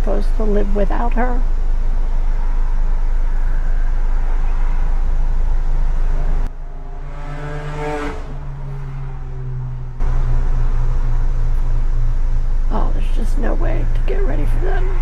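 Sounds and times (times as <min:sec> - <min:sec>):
vehicle cabin hum: 0:00.0 - 0:15.0.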